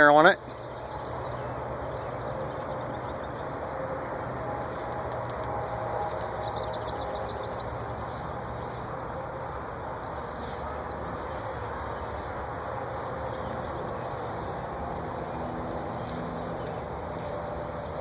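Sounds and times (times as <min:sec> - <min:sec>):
vehicle-like rumble: 0:00.0 - 0:18.0.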